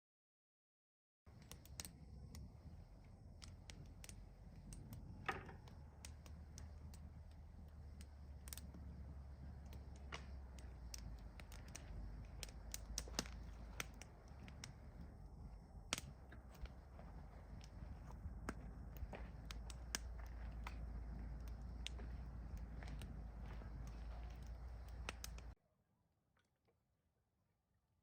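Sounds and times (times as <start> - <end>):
campfire crackling and popping: 1.3 - 25.6
low steady rumble: 1.3 - 25.6.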